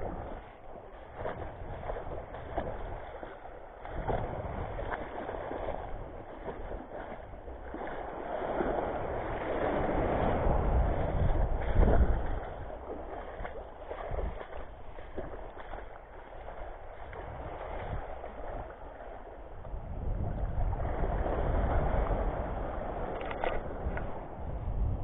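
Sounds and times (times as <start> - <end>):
small waves washing: 0.0 - 25.0
wind buffeting microphone: 0.0 - 25.0.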